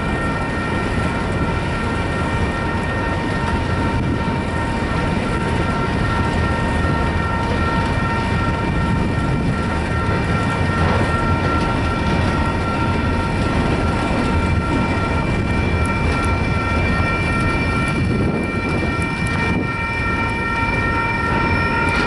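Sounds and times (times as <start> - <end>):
high ringing tones: 0.0 - 22.0
train wheels rumbling on rail: 0.0 - 22.0.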